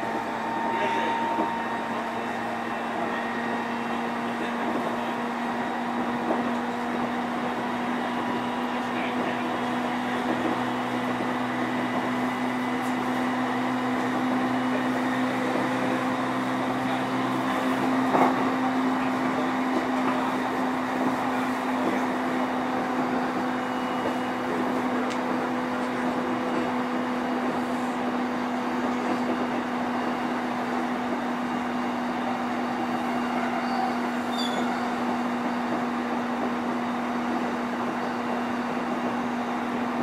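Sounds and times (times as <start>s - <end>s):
train motor hum: 0.0s - 40.0s
train wheels rumbling on rail: 0.0s - 40.0s.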